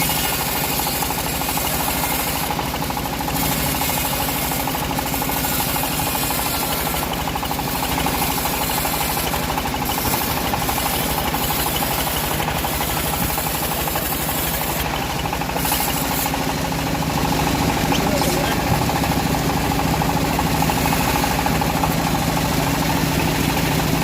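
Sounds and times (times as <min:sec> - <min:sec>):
band sawmill running: 0:00.0 - 0:24.0.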